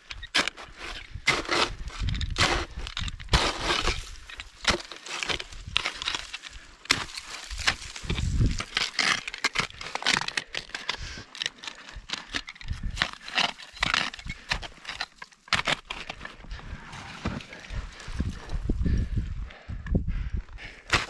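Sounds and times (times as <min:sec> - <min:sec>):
ice axes striking snow: 0:00.0 - 0:18.5.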